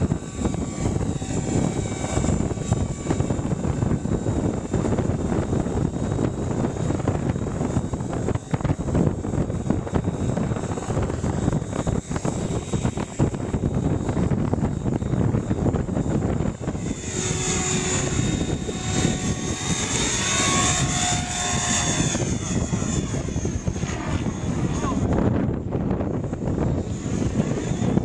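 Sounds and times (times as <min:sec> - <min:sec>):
rc helicopter rotor whine: 0:00.0 - 0:28.0
wind buffeting microphone: 0:00.0 - 0:28.0.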